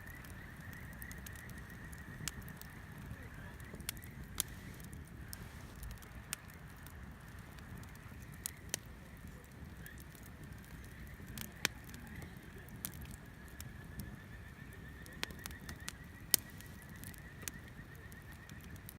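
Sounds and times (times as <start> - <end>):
bonfire crackling and popping: 0.0 - 18.9.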